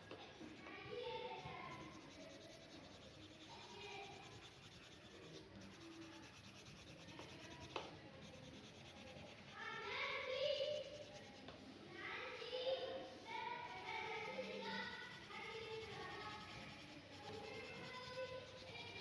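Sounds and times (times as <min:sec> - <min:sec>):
faint voices: 0:00.0 - 0:19.0
pen scratching on paper: 0:00.1 - 0:11.7, 0:13.1 - 0:19.0.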